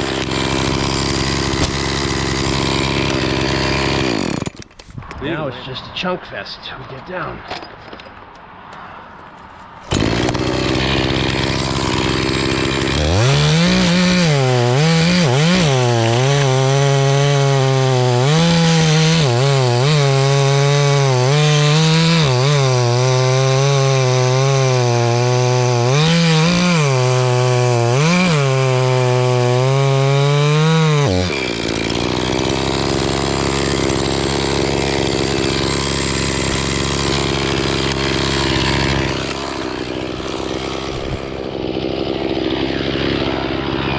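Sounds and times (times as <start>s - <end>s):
chainsaw cutting wood: 0.0s - 5.4s, 8.7s - 43.9s.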